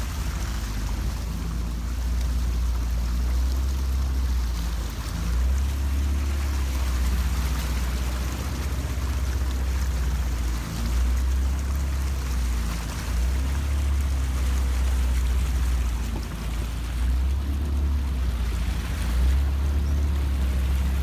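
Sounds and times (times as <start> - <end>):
low rumble: 0.0 - 21.0
motorboat engine running: 0.0 - 21.0
water rushing past hull: 0.0 - 21.0.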